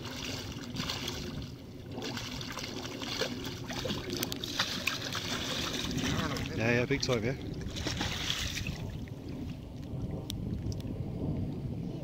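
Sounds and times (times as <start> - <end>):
fish thrashing in water: 0.0 - 9.8.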